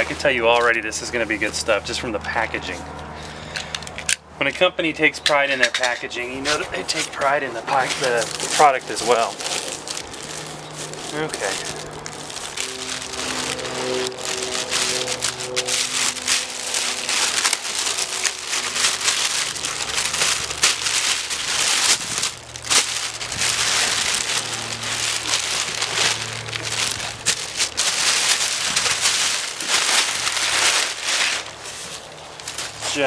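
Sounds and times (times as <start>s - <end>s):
plastic bag crinkling: 6.4s - 33.0s.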